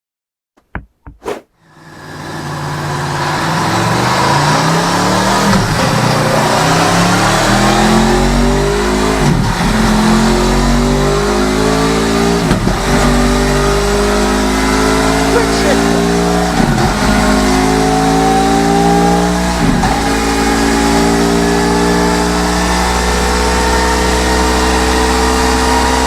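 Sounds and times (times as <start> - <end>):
motorcycle engine revving hard: 2.4 - 26.0.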